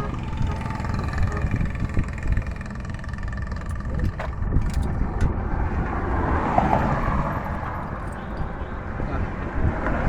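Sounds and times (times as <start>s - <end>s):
diesel truck engine rumbling: 0.0s - 9.2s.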